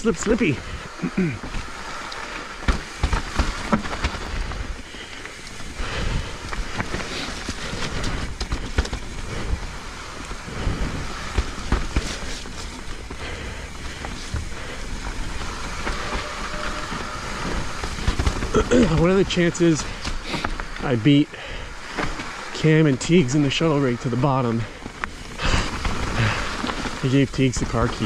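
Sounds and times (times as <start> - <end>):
bike knocking and rattling: 0.0 - 28.0
bike tyre noise: 0.0 - 28.0
wind: 0.0 - 28.0.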